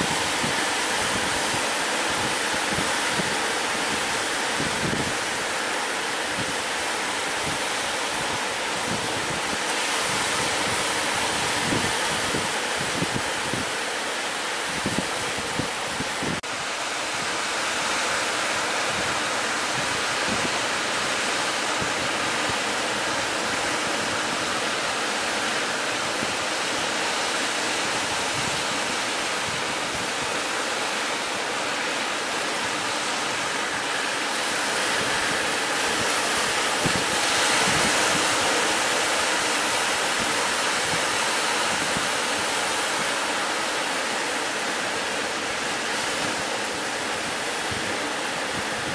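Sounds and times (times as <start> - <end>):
sea surf rushing: 0.0 - 48.9
wind gusting on microphone: 0.0 - 48.9.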